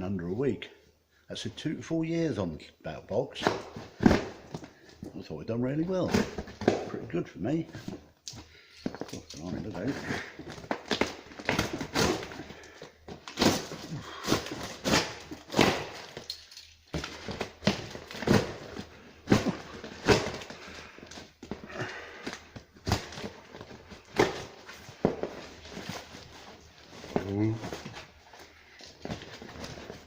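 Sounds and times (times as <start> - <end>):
boxes and packaging handled: 3.2 - 30.0.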